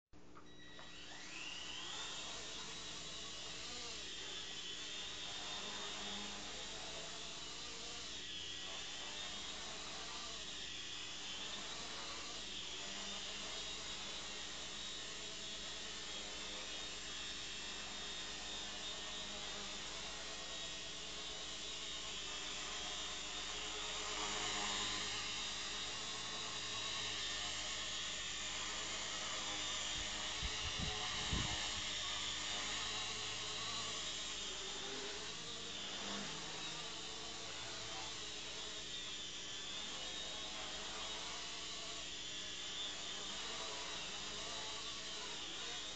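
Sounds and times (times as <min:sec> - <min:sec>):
rc helicopter motors whining: 0:00.4 - 0:45.9.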